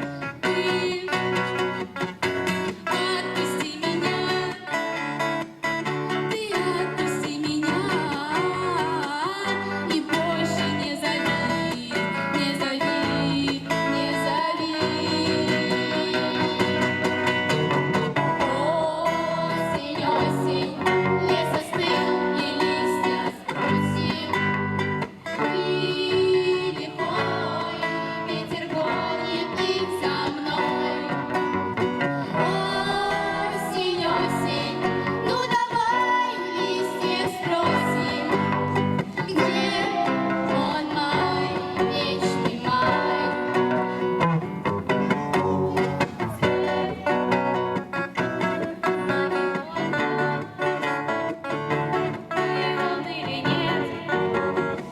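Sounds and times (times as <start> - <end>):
girls' vocal ensemble singing: 0.0 - 1.6, 2.9 - 4.9, 6.1 - 44.2, 45.7 - 47.8, 49.1 - 54.9
guitar accompaniment: 0.0 - 54.9.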